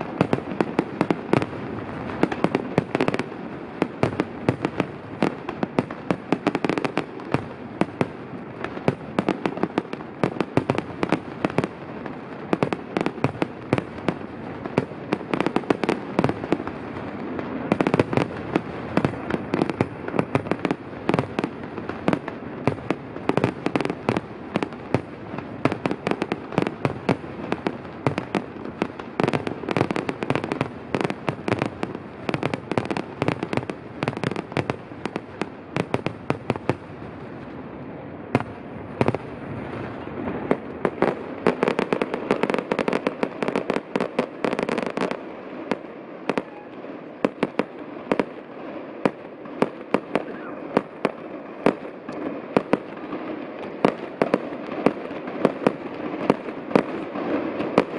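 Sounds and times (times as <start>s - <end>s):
fireworks crackling: 0.0s - 57.9s.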